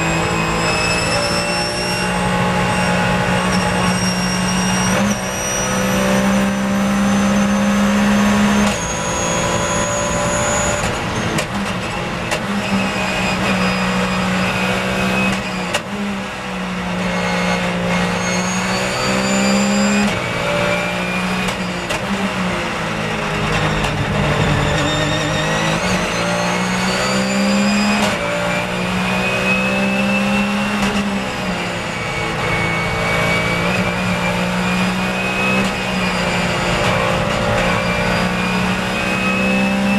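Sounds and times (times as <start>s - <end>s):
racing car engine at full throttle: 0.0s - 39.9s.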